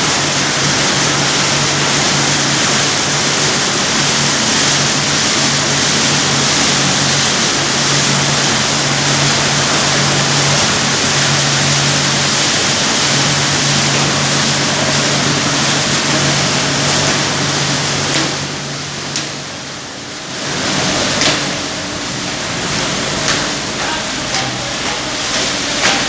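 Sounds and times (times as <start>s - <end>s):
low motor hum: 0.0s - 26.0s
spraying water rushing: 0.0s - 26.0s.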